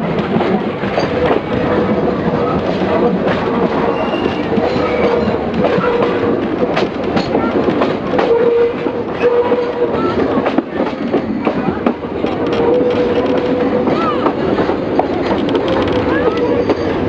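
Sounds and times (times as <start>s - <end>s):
clacks over rail joints: 0.0s - 17.0s
train wheel rumble: 0.0s - 17.0s.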